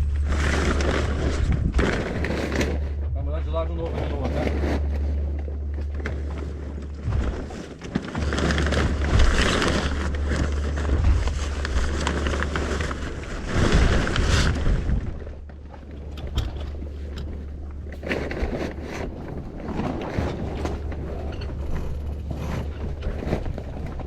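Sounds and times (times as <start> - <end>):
steady low hum: 0.0 - 24.0
wind rushing over microphone: 0.0 - 24.0.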